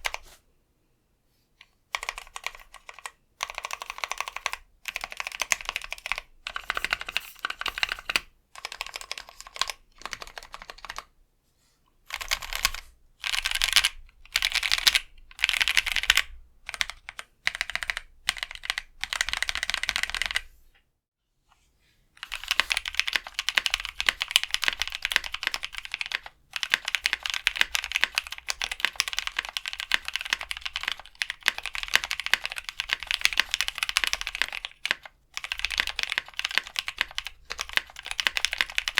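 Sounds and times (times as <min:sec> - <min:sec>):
mechanical keyboard typing: 0:00.0 - 0:00.3, 0:01.9 - 0:11.1, 0:12.1 - 0:20.5, 0:22.2 - 0:38.9.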